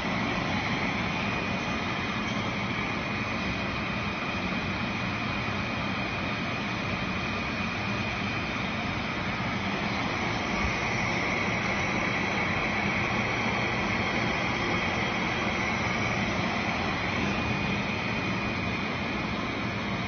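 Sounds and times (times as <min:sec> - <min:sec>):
constant high whine: 0:00.0 - 0:20.0
machinery humming: 0:00.0 - 0:20.0.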